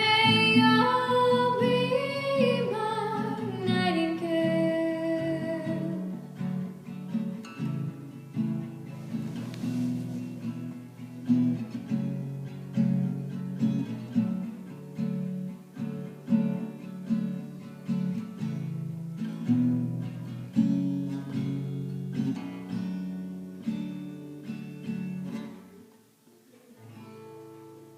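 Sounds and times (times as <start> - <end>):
acoustic guitar chords: 0.0 - 27.9.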